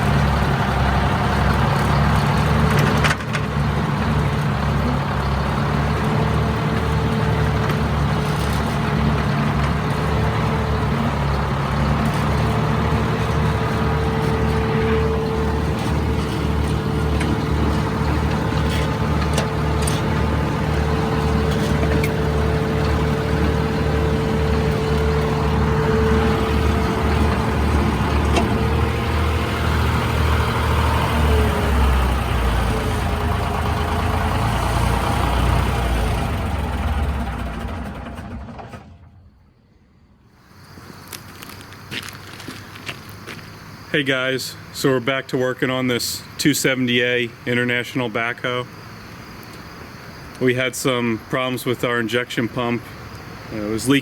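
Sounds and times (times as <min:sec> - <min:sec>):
engine running with low pulsing: 0:00.0 - 0:43.9.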